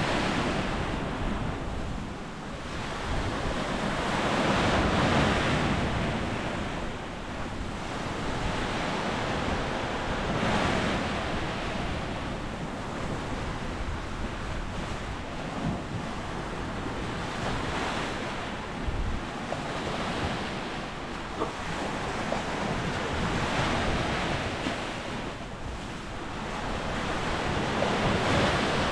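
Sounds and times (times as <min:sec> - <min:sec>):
small waves breaking on shore: 0:00.0 - 0:28.9
wind buffeting microphone: 0:00.0 - 0:28.9.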